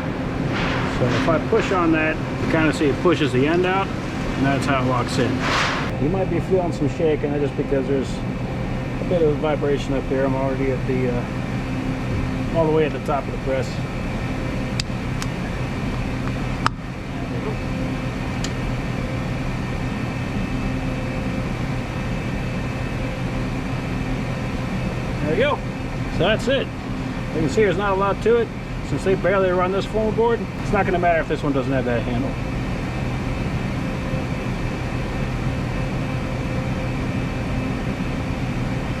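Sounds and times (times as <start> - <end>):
printing press humming: 0.0 - 39.0.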